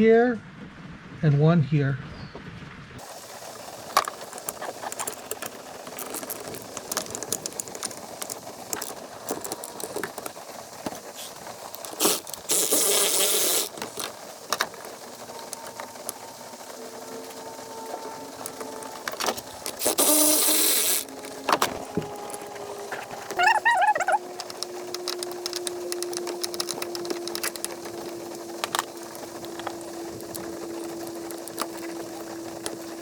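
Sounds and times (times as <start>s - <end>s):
ratchet clicks and tool clatter: 3.7s - 33.0s.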